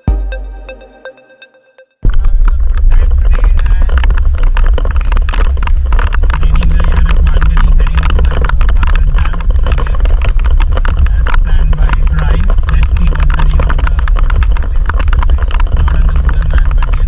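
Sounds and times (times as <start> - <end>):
vehicle rumbling and rattling: 2.0 - 17.0.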